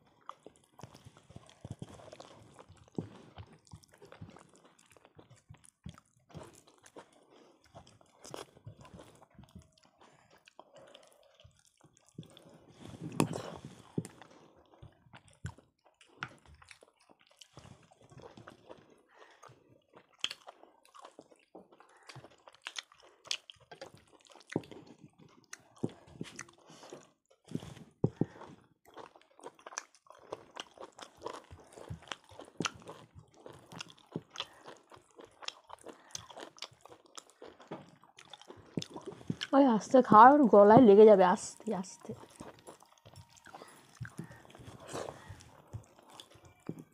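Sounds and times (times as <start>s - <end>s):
wet chewing and smacking: 0.0s - 46.9s.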